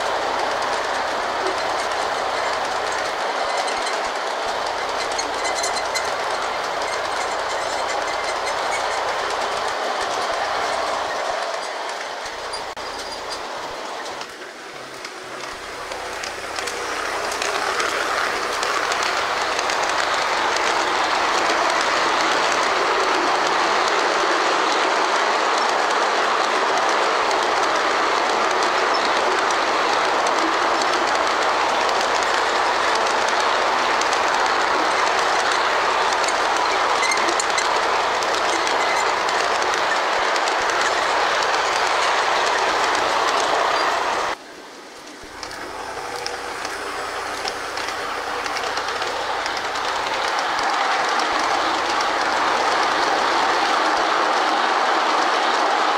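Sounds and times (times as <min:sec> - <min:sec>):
model train wheels clicking on track: 0:00.0 - 0:55.9.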